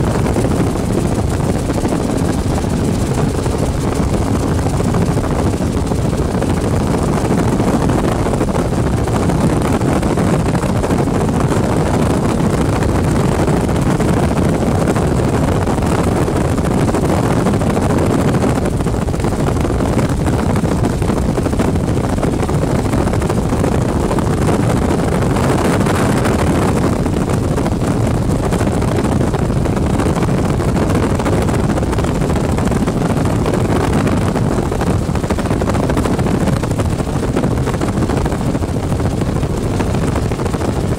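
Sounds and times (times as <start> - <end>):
helicopter engine and rotor drone: 0.0 - 40.9
wind noise on microphone: 0.0 - 40.9.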